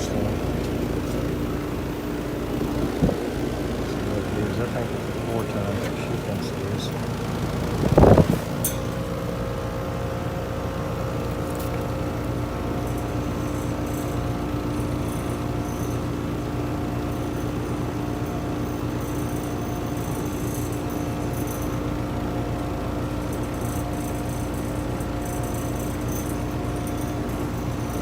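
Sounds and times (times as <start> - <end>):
air conditioner hum: 0.0 - 28.0.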